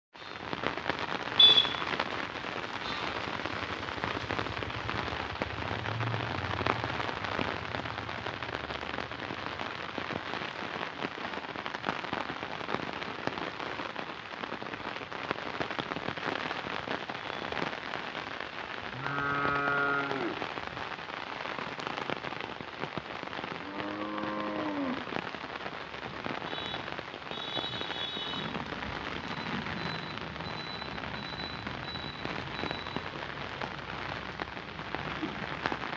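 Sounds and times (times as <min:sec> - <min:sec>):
rain pattering on leaves: 0:00.1 - 0:35.9.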